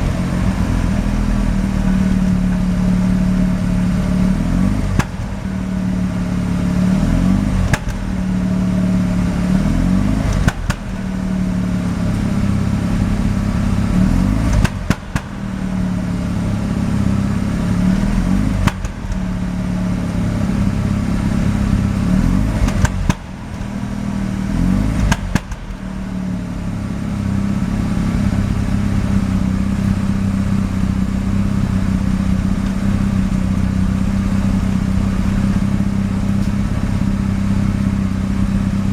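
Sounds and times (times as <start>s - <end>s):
engine misfire pops: 0.0s - 38.9s
rotary engine idling roughly: 0.0s - 38.9s.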